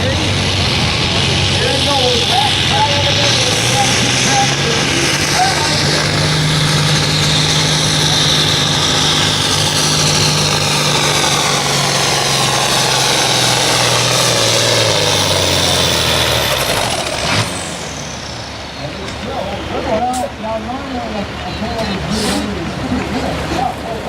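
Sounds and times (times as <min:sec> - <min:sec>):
large engine idling with high whine: 0:00.0 - 0:24.0.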